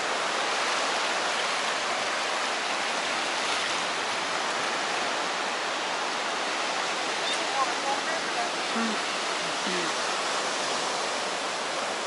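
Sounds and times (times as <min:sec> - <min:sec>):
small waves washing over sand: 0:00.0 - 0:12.0.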